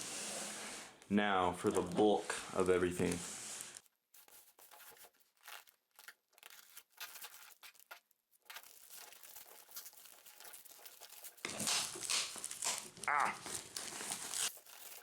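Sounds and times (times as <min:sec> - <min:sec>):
packaging tearing and crinkling: 0:03.0 - 0:15.0.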